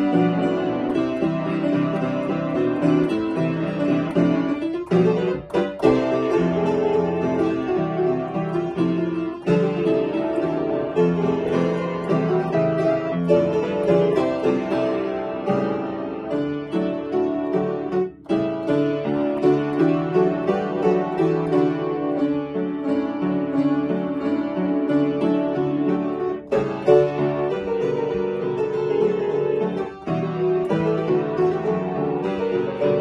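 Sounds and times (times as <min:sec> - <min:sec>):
upright piano lively playing: 0:00.0 - 0:33.0.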